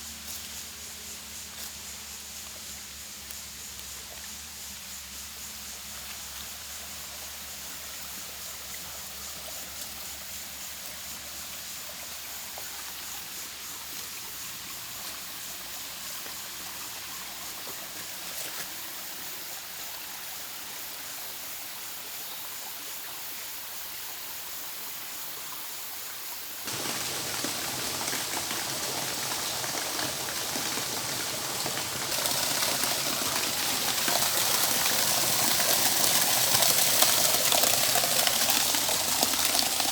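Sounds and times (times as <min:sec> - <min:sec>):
water trickling and splashing: 0:00.0 - 0:20.4, 0:26.6 - 0:39.9.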